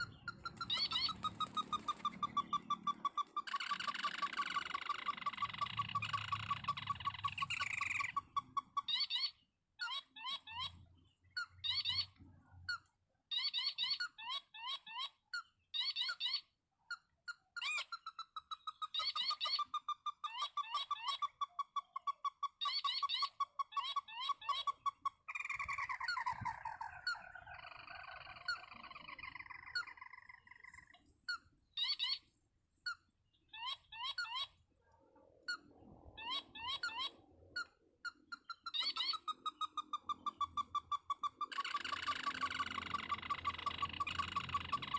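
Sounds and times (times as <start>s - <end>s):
crake calls: 0.0s - 44.9s.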